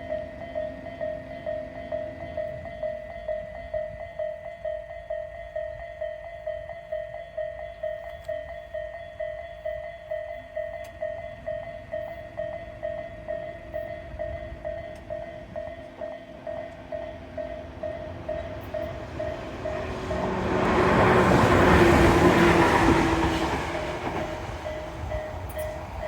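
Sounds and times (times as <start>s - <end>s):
level crossing alarm bell: 0.0s - 26.0s
train passing: 0.0s - 26.0s.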